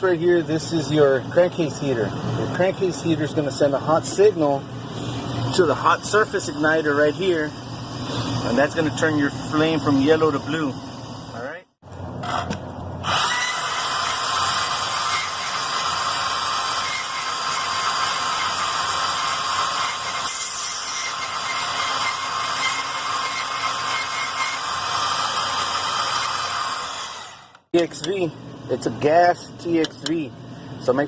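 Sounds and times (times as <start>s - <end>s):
fan motor rushing air: 0.0s - 31.0s.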